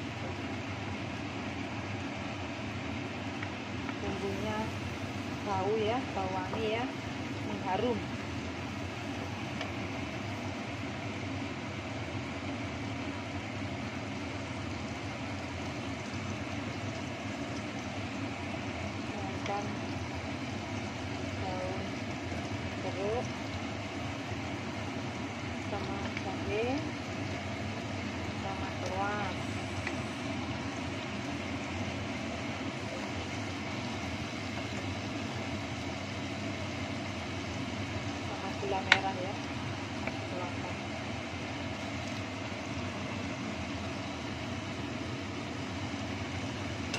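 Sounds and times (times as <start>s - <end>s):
extractor fan humming: 0.0s - 46.9s
paste frying in a pan: 0.0s - 46.9s.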